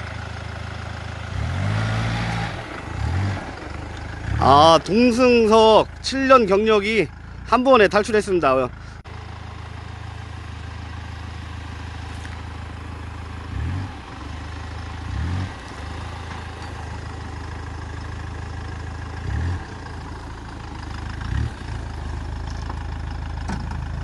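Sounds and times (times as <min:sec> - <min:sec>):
car engine running low: 0:00.0 - 0:24.0.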